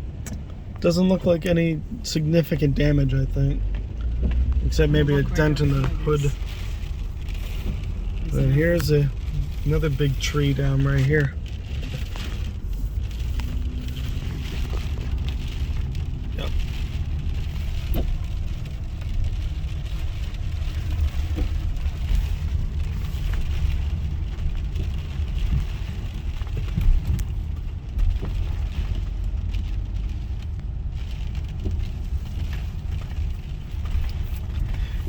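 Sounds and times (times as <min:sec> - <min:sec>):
car cabin rumble while driving: 0:00.0 - 0:35.0.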